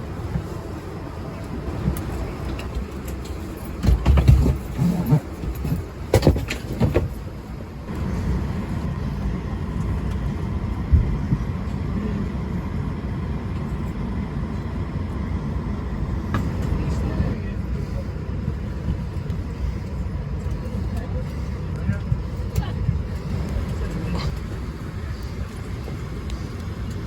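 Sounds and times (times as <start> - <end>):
aircraft cabin hum: 0.0 - 27.0.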